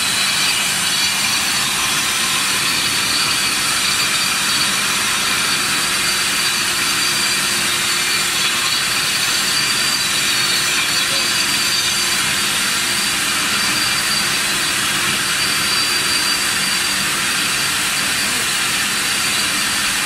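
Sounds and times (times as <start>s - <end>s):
concrete floor grinder running: 0.0s - 20.0s.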